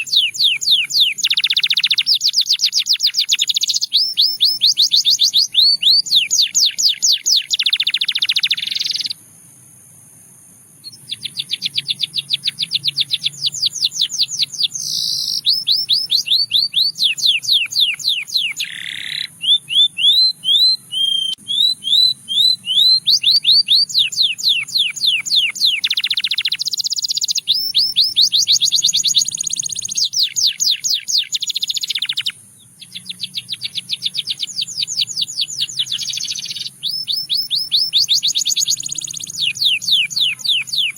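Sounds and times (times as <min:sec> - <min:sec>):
canary singing in trills: 0:00.0 - 0:09.2, 0:10.8 - 0:40.9.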